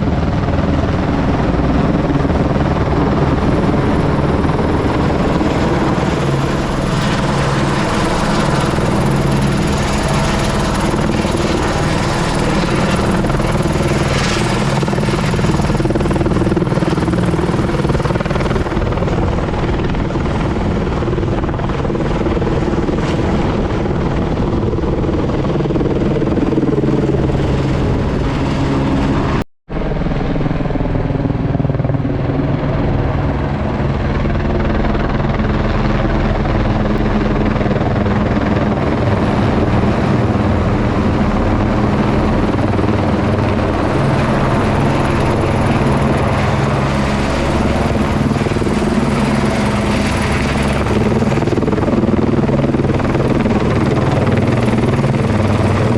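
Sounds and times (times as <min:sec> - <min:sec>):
helicopter running: 0:00.0 - 0:55.9.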